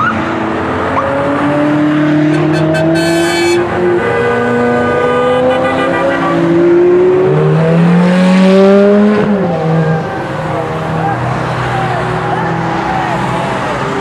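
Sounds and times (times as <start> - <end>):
sports car engines accelerating past: 0.0 - 14.0.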